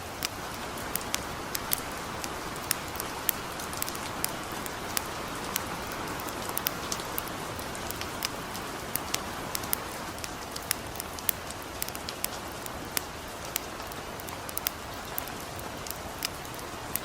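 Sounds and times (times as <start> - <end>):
campfire crackling and popping: 0.0 - 17.0
light rain hissing: 0.0 - 17.0.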